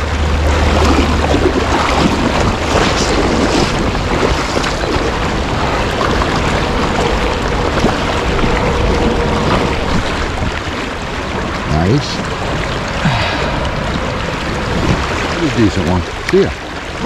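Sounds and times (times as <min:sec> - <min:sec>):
fast-flowing creek water rushing: 0:00.0 - 0:17.0.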